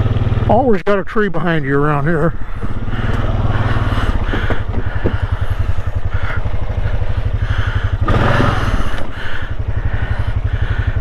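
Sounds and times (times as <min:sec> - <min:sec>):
small vehicle engine running: 0:00.0 - 0:00.7, 0:02.3 - 0:11.0.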